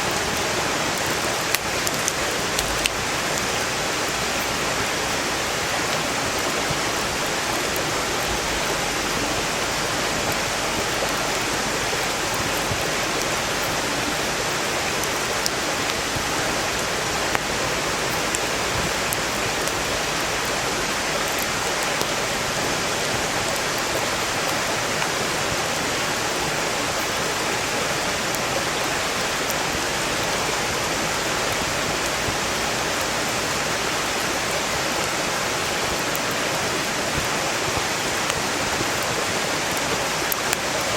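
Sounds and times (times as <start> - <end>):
stream rushing: 0.0 - 40.9
wood fire crackling: 0.0 - 40.9.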